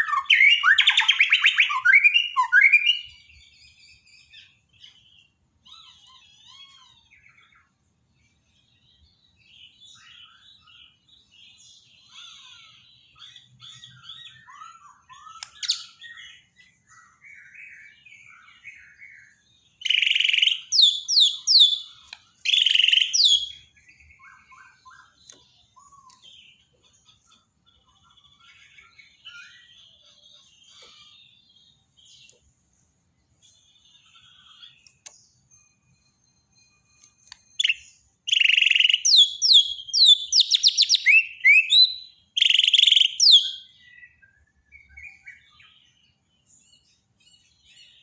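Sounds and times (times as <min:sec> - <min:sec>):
bird singing: 0:00.0 - 0:48.0.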